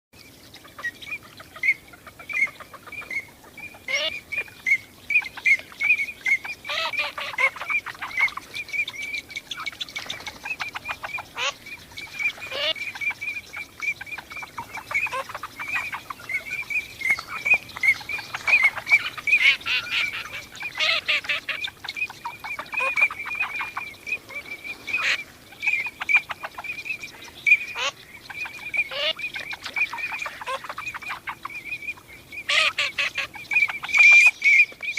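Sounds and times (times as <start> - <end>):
ducks calling with high whistles: 0.2 - 34.9.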